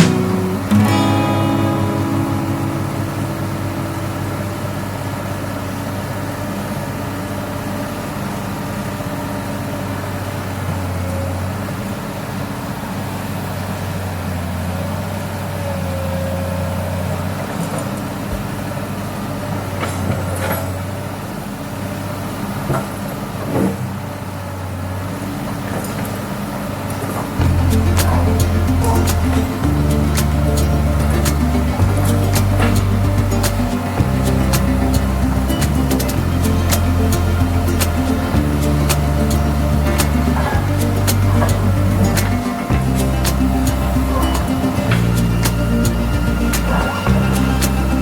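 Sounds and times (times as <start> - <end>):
excavator diesel engine drone: 0.0 - 48.0.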